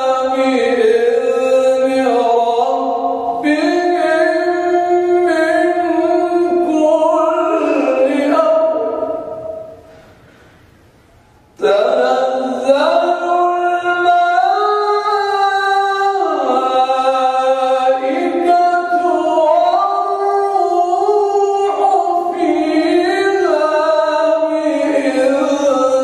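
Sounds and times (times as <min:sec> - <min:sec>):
man reciting melodically: 0:00.0 - 0:09.9, 0:11.6 - 0:26.0.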